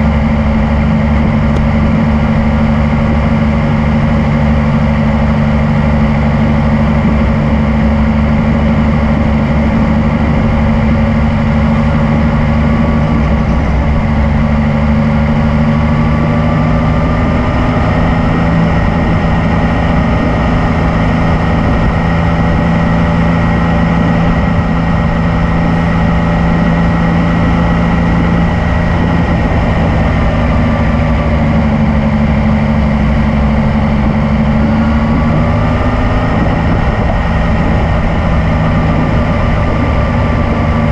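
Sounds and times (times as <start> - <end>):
motorcycle engine running: 0.0 - 40.9
wind rush: 0.0 - 40.9.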